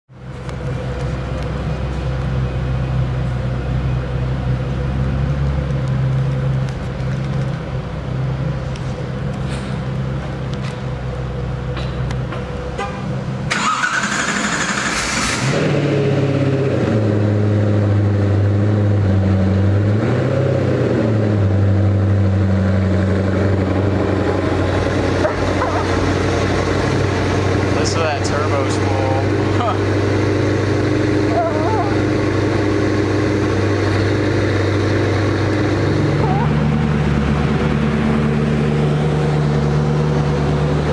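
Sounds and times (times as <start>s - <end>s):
car engine starting and idling: 0.1s - 40.9s.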